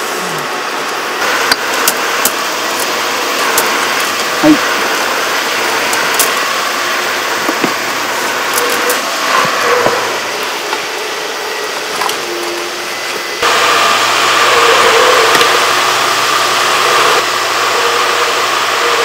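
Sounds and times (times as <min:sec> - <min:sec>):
construction machine engine running: 0:00.0 - 0:19.0.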